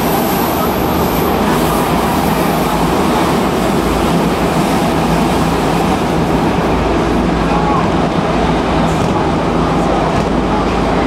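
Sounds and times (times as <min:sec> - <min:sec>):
metro train rumble and roar: 0:00.0 - 0:11.0.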